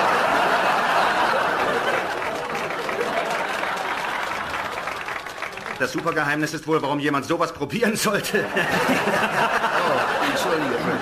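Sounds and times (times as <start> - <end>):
studio audience laughing: 0.0 - 6.1, 8.0 - 11.0.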